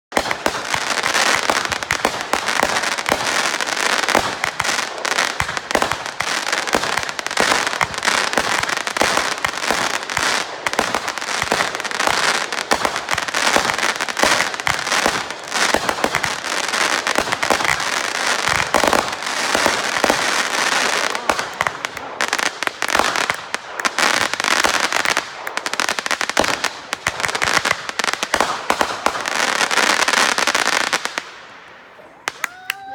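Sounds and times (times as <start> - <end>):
fireworks crackling: 0.1 - 32.9.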